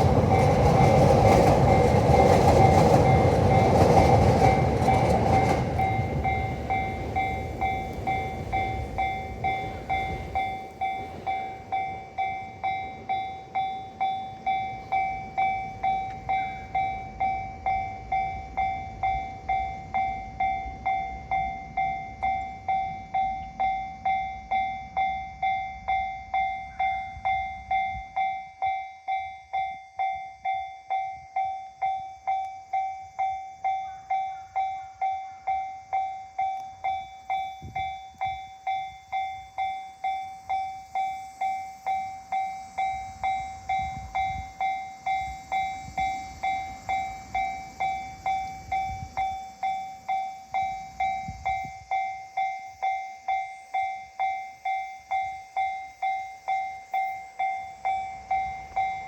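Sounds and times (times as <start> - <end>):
train rumbling past: 0.0 - 28.3, 32.4 - 59.0
level crossing warning bell: 0.0 - 59.0.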